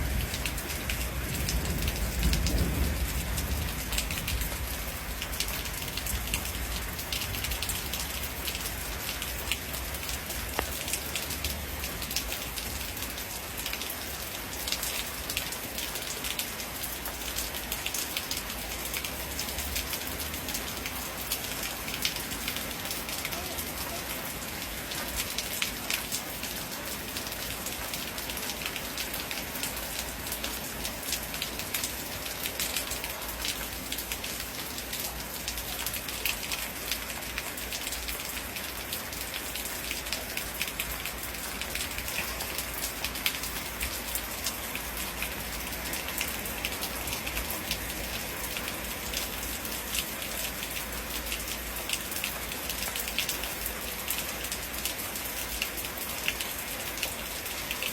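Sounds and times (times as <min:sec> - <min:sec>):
heavy rain on hard surface: 0:00.0 - 0:57.9.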